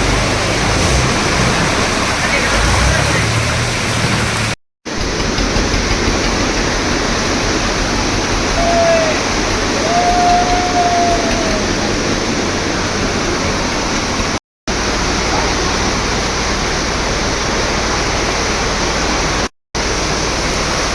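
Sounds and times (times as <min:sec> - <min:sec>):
rushing rain and floodwater: 0:00.0 - 0:20.9.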